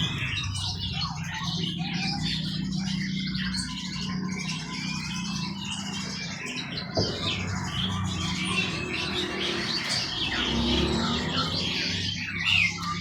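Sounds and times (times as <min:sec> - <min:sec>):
songbirds chirping and calling: 0:00.0 - 0:13.0.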